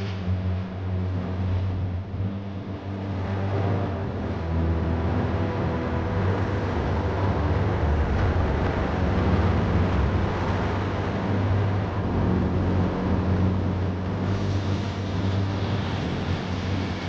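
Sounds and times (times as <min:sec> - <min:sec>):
car engine hum: 0:00.0 - 0:17.0
road noise inside car: 0:00.0 - 0:17.0.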